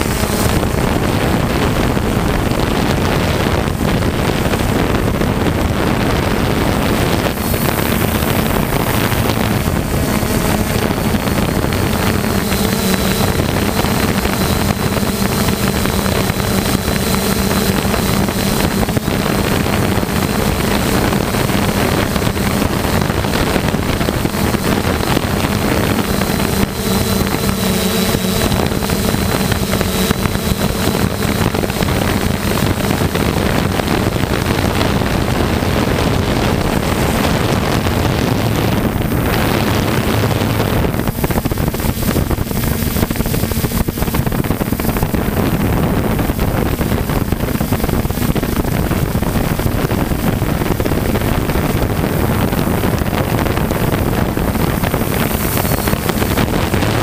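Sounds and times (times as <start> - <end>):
drone motors humming: 0.0 - 57.0
wind on microphone: 0.0 - 57.0.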